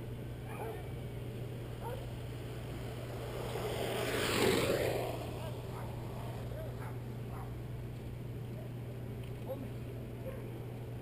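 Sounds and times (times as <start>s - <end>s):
low hum: 0.0s - 11.0s
wheels rolling on asphalt: 0.0s - 11.0s.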